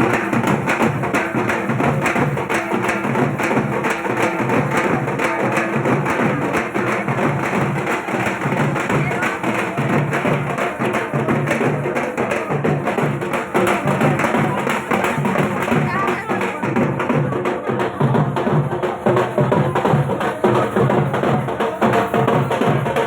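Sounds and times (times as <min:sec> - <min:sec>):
barrel drum beaten with sticks: 0:00.0 - 0:23.0.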